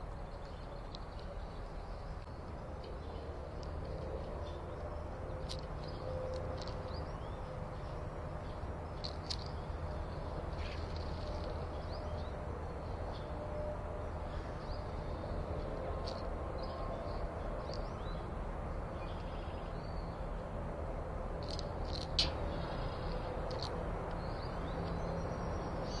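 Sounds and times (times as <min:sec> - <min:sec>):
small birds chirping: 0:00.0 - 0:13.4, 0:14.1 - 0:20.3, 0:21.4 - 0:26.0.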